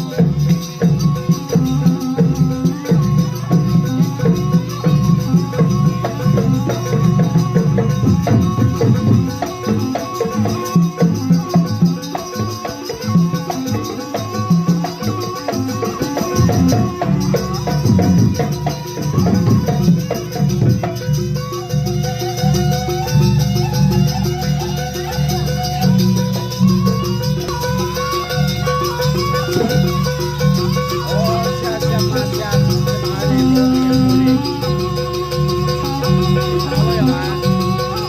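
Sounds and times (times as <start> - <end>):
drums and percussion rhythm: 0.0 - 38.0.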